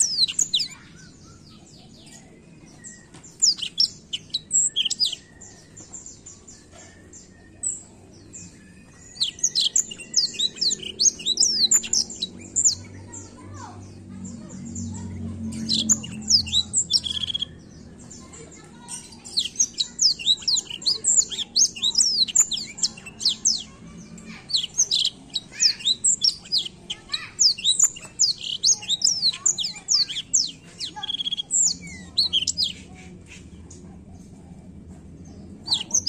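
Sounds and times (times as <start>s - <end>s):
bird singing trills: 0.0s - 34.4s, 35.1s - 36.0s.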